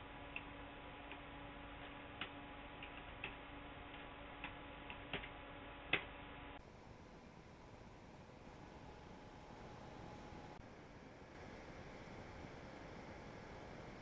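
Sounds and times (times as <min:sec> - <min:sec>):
computer fan humming: 0:00.0 - 0:14.0.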